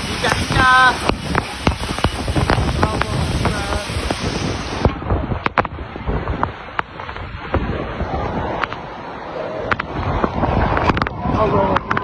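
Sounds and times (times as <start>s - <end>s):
storm wind gusting: 0.0s - 12.0s.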